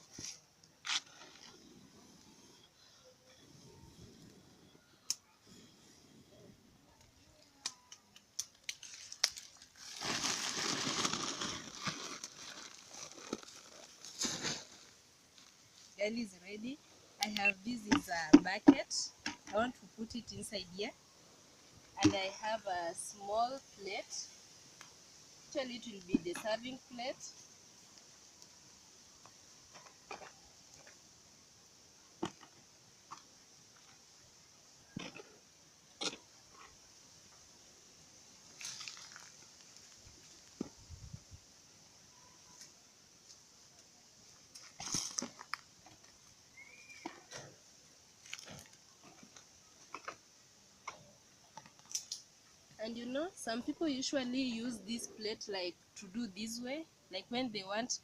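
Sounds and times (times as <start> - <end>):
faint steady high hiss: 0.0 - 58.0.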